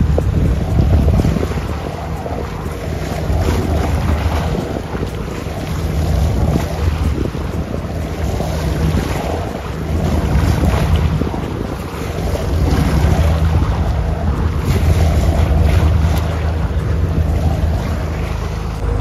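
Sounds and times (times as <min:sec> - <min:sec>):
low engine hum: 0:00.0 - 0:19.0
water rushing along boat hull: 0:00.0 - 0:19.0
wind buffeting microphone: 0:00.0 - 0:19.0.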